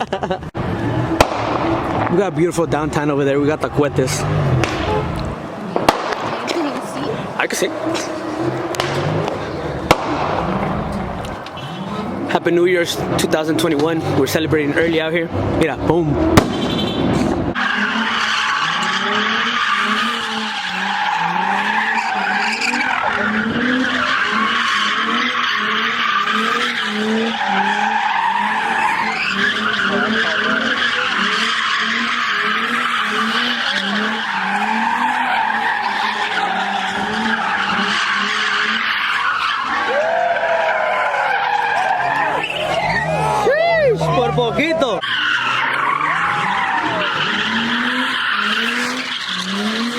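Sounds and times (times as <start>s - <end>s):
car engine revving: 0.3s - 49.9s
car tires squealing: 0.6s - 49.9s.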